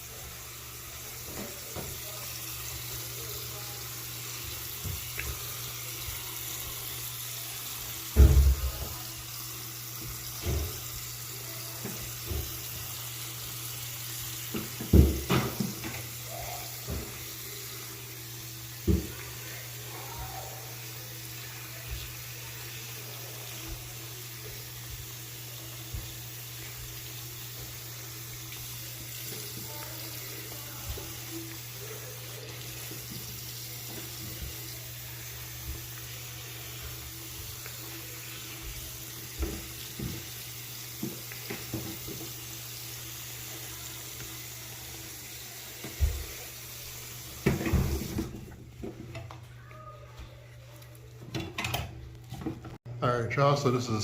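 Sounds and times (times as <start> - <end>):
tap running water: 0.0 - 52.8.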